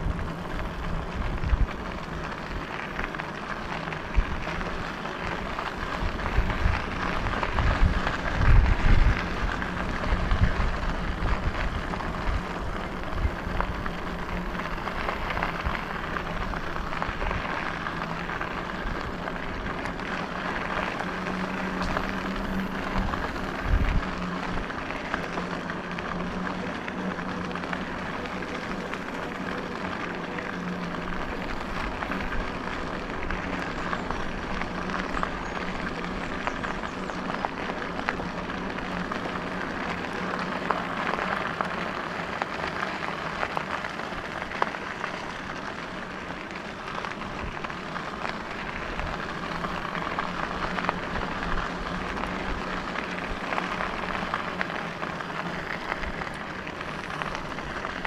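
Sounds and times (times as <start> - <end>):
electric motor hum: 0.0 - 45.4, 46.0 - 58.0
tyre and wind noise: 0.0 - 58.0.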